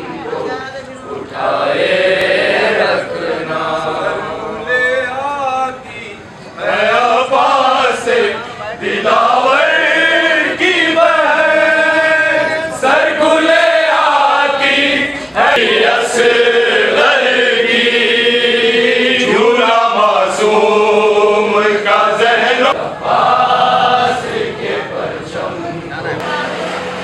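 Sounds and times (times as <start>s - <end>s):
men chanting in unison: 1.2s - 25.9s.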